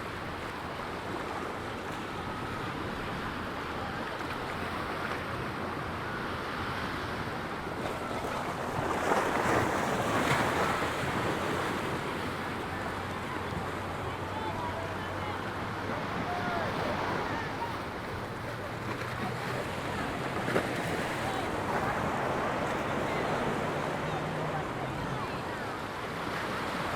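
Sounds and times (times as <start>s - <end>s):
ocean surf on beach: 0.0s - 26.9s.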